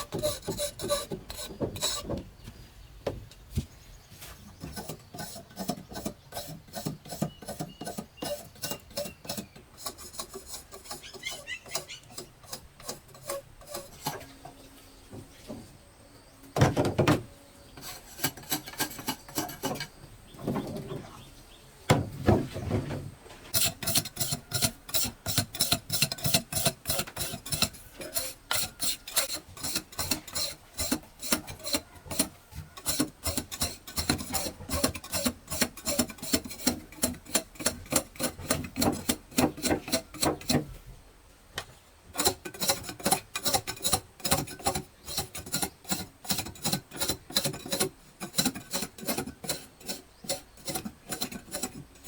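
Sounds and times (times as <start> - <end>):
hand tool scraping: 0.0 - 2.3, 4.1 - 15.7, 16.7 - 21.3, 22.0 - 40.8, 42.1 - 52.0.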